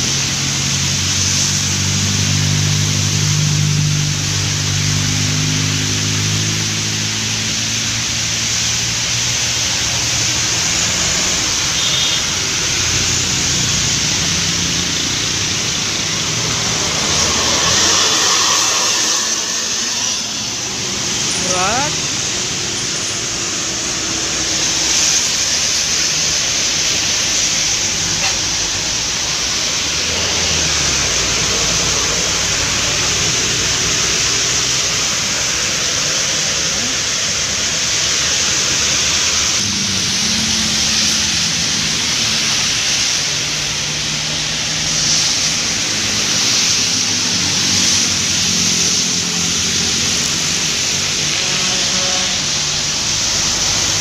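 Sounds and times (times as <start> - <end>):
bus and car engines humming: 0.0 - 54.0
heavy rain: 0.0 - 54.0
tyres spraying through water: 0.0 - 54.0.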